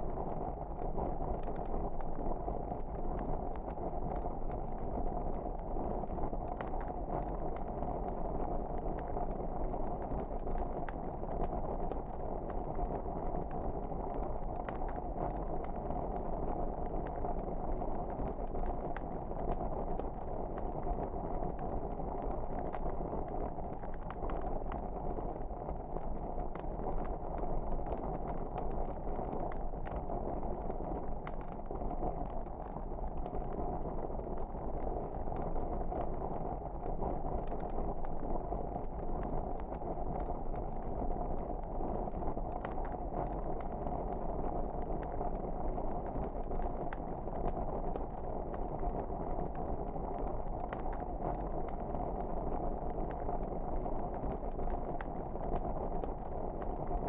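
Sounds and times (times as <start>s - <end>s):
fire crackling and popping: 0.0s - 57.0s
wood fire burning: 0.0s - 57.0s.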